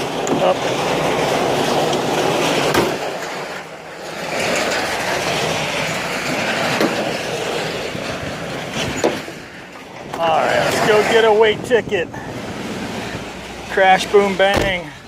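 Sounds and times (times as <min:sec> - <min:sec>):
mechanical rumble: 0:00.0 - 0:15.0.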